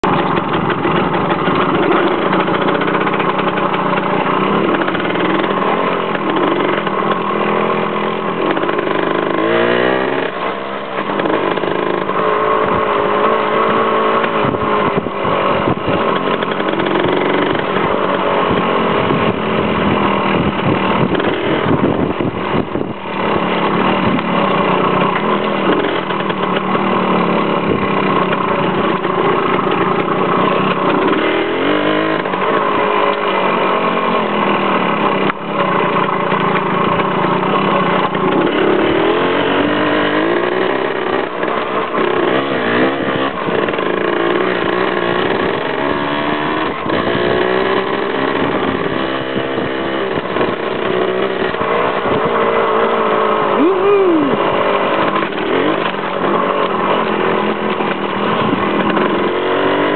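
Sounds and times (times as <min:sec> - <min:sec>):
motor vehicle engine running: 0:00.0 - 0:59.9.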